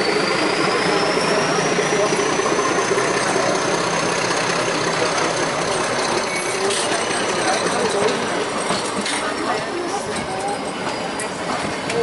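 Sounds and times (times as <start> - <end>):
toy train locomotive running: 0.0 - 12.0.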